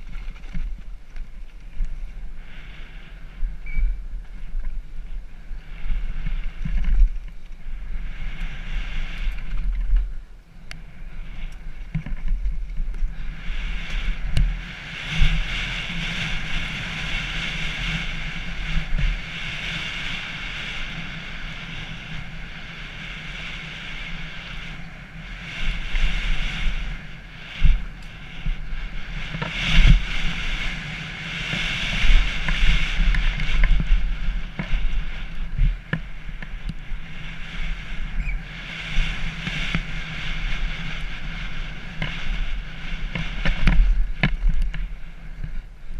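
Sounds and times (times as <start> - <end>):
bike knocking and rattling: 0.0 - 2.3, 3.5 - 23.0, 23.7 - 45.9
wind buffeting camera: 0.0 - 45.9.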